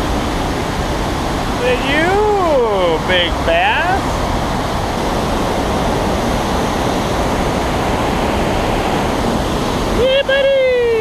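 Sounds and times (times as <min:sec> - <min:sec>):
river rapid rushing over rocks: 0:00.0 - 0:11.0.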